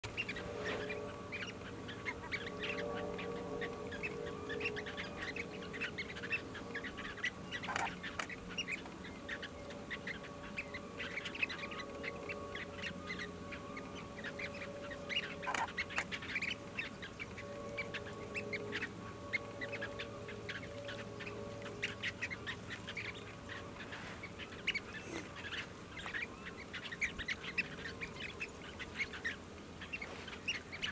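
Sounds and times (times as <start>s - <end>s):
faint hum: 0.0s - 30.9s
shorebirds calling: 0.0s - 30.9s.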